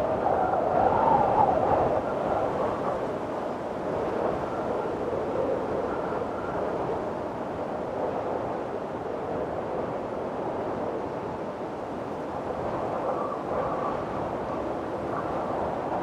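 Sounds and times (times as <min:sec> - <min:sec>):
faint howling wind whistle: 0:00.0 - 0:16.0.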